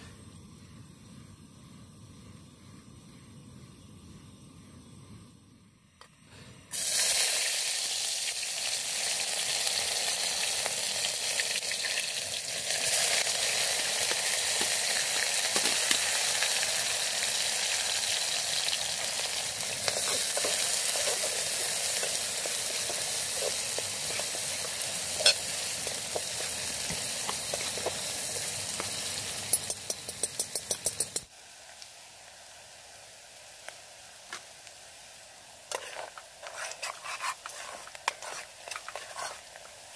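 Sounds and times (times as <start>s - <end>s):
food sizzling in a pan: 6.7s - 39.9s.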